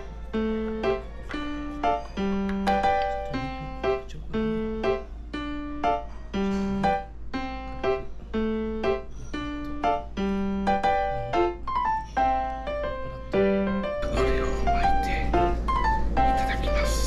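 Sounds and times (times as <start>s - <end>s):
light piano tune: 0.0s - 17.0s.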